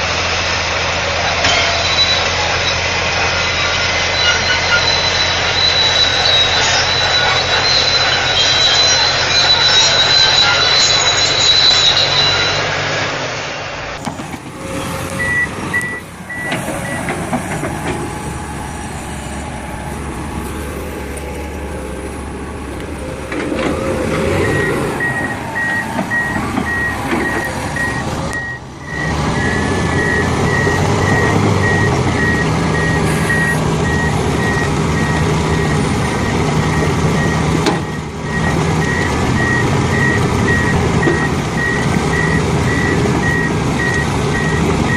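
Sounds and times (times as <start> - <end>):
loud diesel engine running: 0.0 - 44.9
reversing alarm beeping: 1.0 - 12.9, 14.6 - 44.9.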